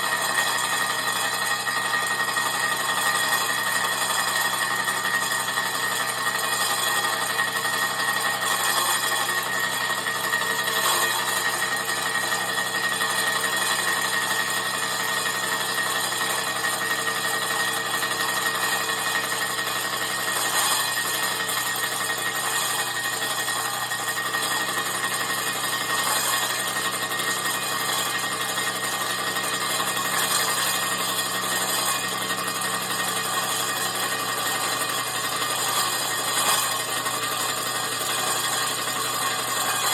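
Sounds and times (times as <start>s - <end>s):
high-pitched machine whine: 0.0s - 39.9s
saw blade cutting metal: 0.0s - 39.9s.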